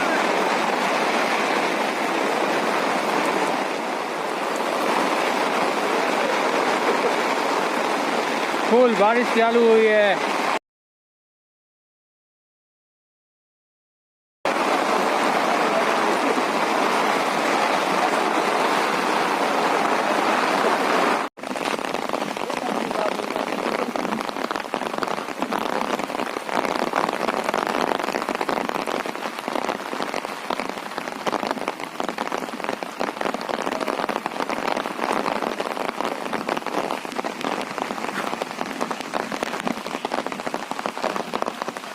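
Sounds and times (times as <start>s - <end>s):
heavy rain pouring: 0.0s - 10.6s, 14.5s - 41.9s.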